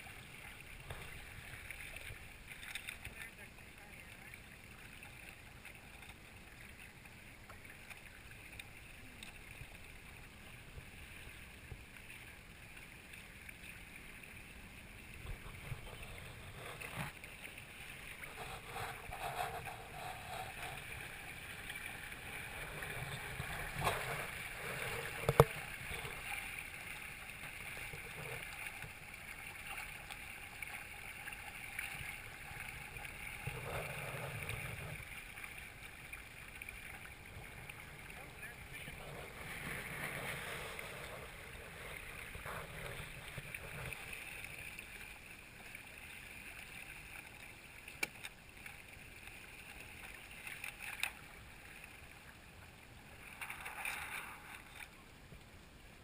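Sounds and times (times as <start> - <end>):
water rushing along kayak hull: 0.0 - 56.0.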